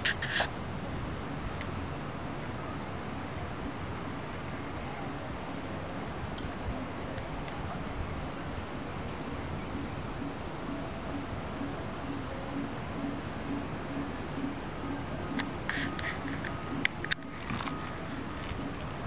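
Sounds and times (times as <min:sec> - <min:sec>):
insects chirping: 0:00.0 - 0:19.0
faint low repeating note: 0:00.6 - 0:19.0.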